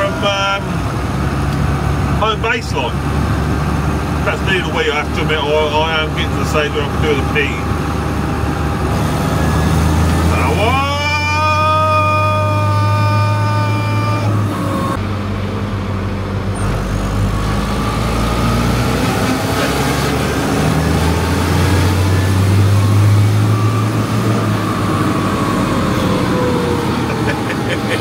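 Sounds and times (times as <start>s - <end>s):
tractor engine drone: 0.0s - 28.0s.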